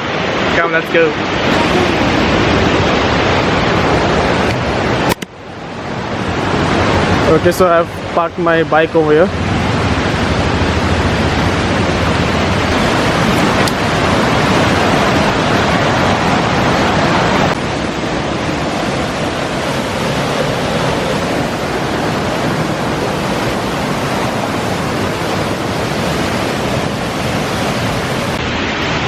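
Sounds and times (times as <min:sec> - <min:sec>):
waterfall rushing water: 0:00.0 - 0:29.0.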